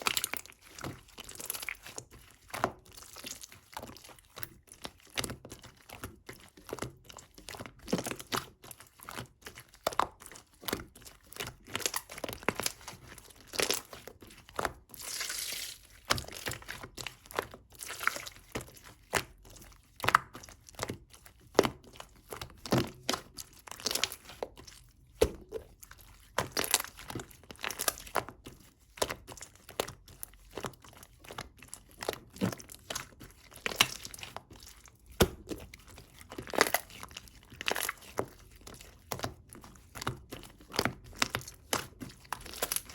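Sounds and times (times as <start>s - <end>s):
crinkling and crunching: 0.0s - 42.9s.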